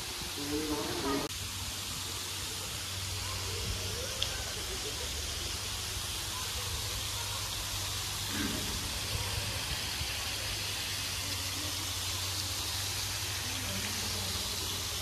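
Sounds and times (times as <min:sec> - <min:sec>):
fountain spraying: 0:00.0 - 0:15.0.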